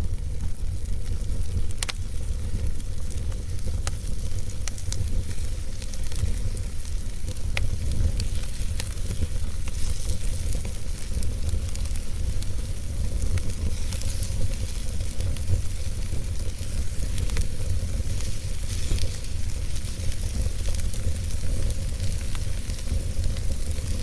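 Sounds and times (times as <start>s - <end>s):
fire crackles and pops: 0.0s - 24.0s
fire rumble and hiss: 0.0s - 24.0s.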